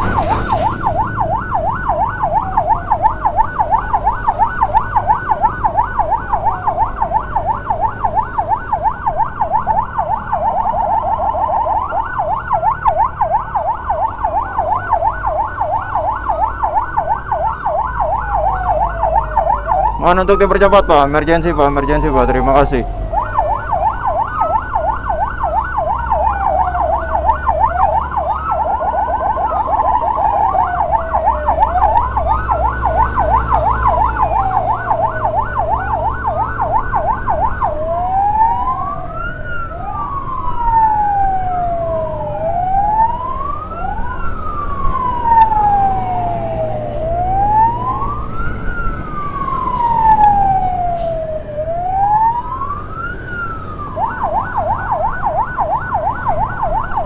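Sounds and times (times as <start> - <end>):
electronic emergency siren: 0.0 - 57.0.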